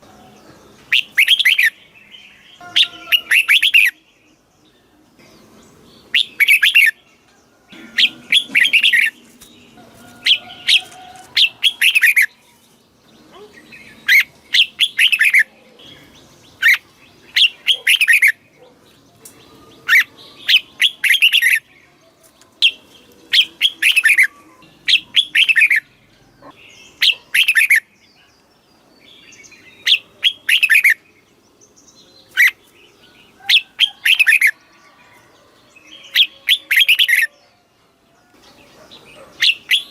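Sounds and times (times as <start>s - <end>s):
bird singing chirping phrases: 0.0s - 39.9s.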